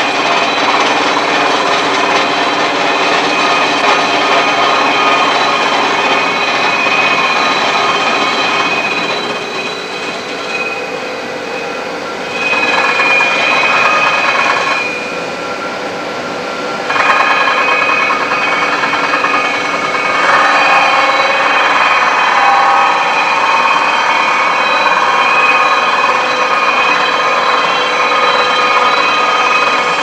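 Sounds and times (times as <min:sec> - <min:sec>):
tram wheelset motor whine: 0:00.0 - 0:30.0.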